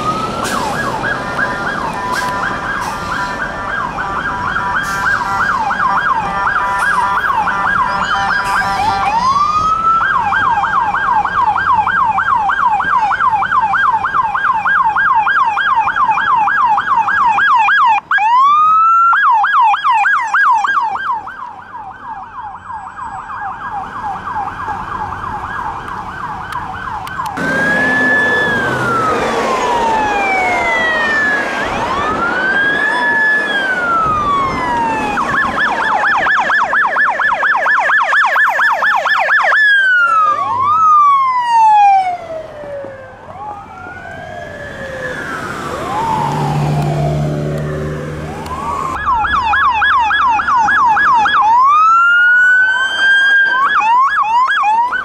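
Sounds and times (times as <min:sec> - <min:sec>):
electronic sirens yelping: 0:00.0 - 0:55.0
sirens wailing: 0:00.0 - 0:55.0.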